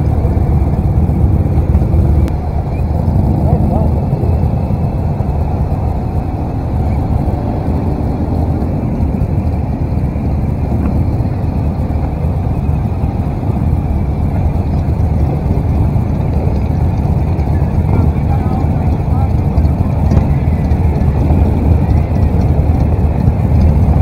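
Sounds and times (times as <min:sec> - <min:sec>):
motorcycle engines rumbling: 0:00.0 - 0:24.0
wind noise: 0:00.0 - 0:24.0.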